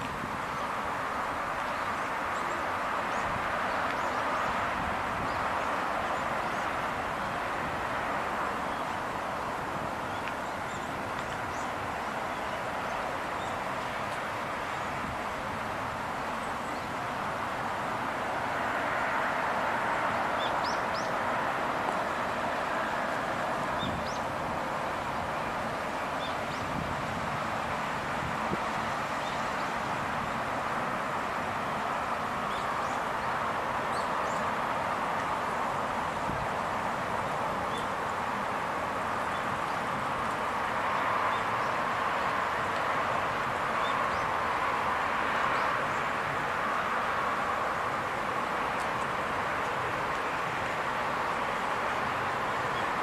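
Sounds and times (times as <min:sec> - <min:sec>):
distant city traffic: 0:00.0 - 0:53.0
outdoor background noise: 0:00.0 - 0:53.0.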